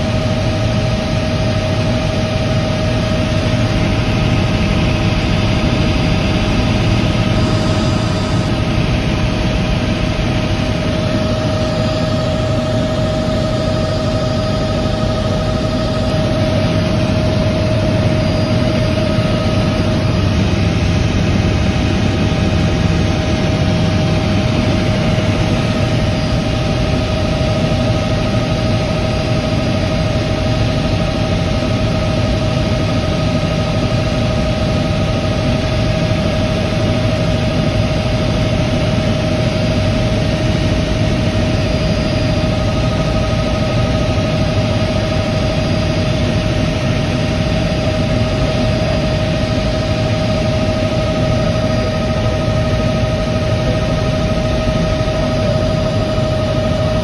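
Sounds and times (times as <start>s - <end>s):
constant turbine whine: 0.0s - 57.0s
helicopter engine and rotor rumble: 0.0s - 57.0s.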